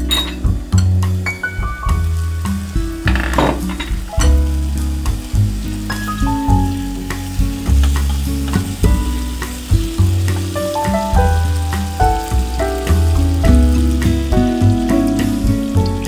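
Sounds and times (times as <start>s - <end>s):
background music with bass: 0.0s - 16.0s
vegetables sizzling in a pan: 0.0s - 16.0s.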